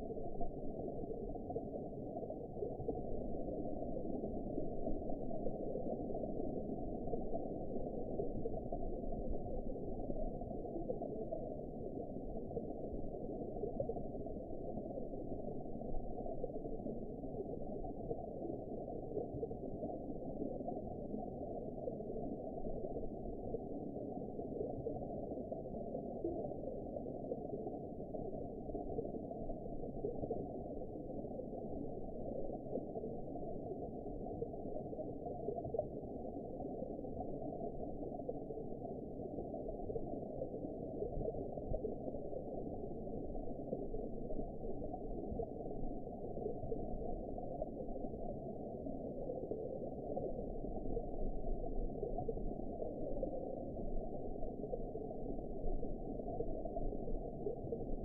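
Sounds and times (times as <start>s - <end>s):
muffled underwater rushing: 0.0s - 58.0s.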